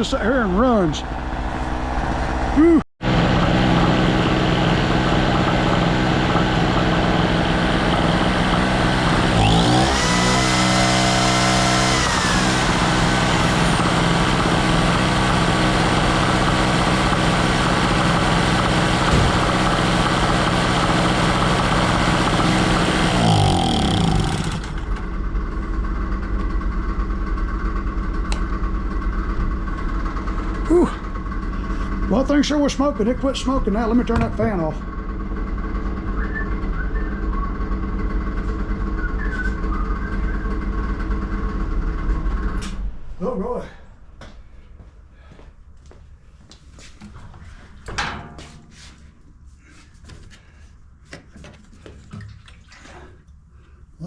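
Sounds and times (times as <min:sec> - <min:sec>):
two-stroke generator engine running: 0:00.0 - 0:43.4.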